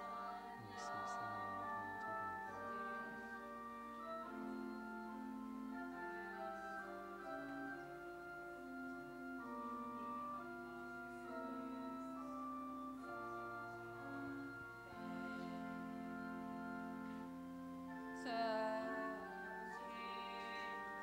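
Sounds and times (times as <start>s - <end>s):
organ playing hymn chords: 0.0s - 21.0s.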